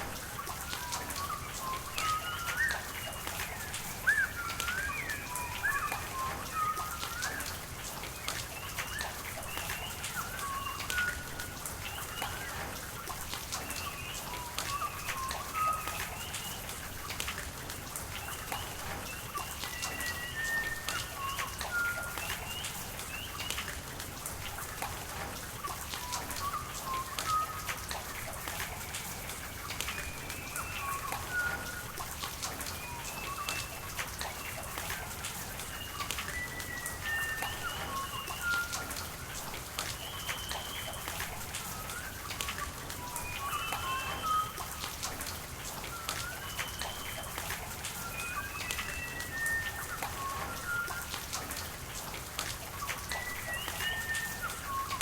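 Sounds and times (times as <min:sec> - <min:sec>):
rain drops pattering: 0:00.0 - 0:55.0.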